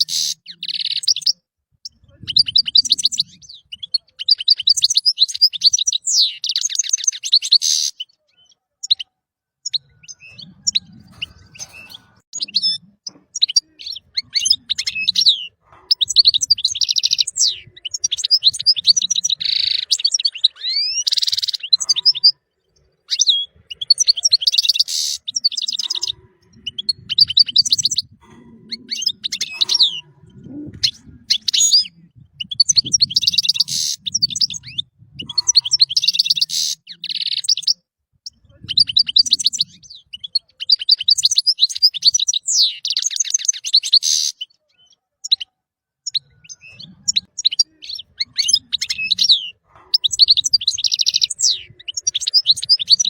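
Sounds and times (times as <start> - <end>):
bird twittering song: 0.0 - 53.0.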